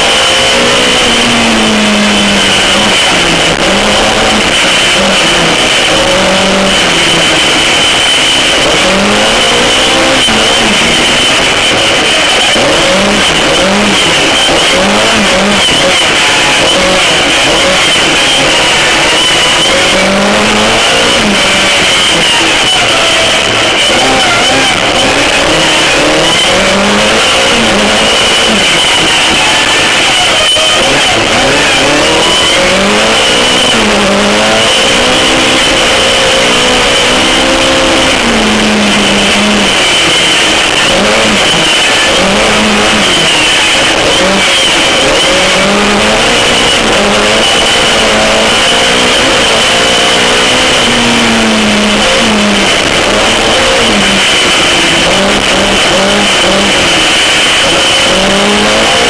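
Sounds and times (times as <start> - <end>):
high-pitched whine: 0.0 - 59.0
race car engine revving: 0.0 - 59.0.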